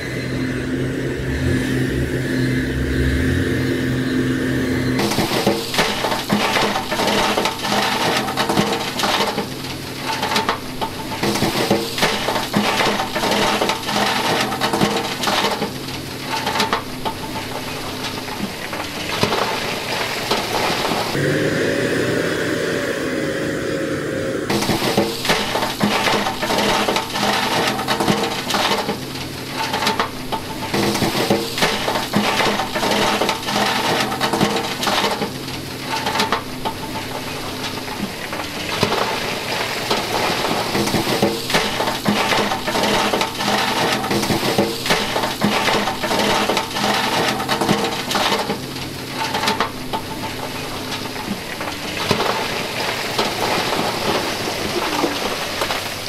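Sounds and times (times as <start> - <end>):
diesel engine running: 0.0 - 56.0
rocks clattering down: 5.0 - 21.2, 24.5 - 56.0.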